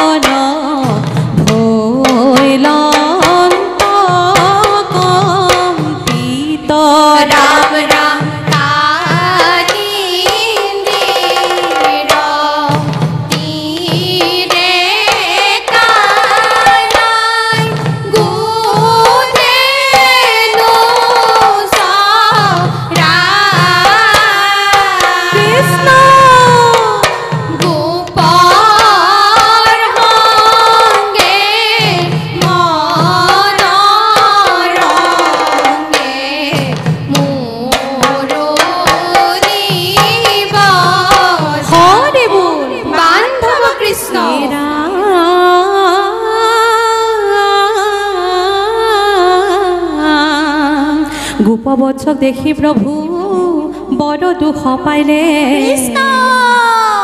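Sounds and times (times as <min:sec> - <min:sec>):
percussion: 0:00.0 - 0:57.0
women singing devotional song: 0:00.0 - 0:57.0.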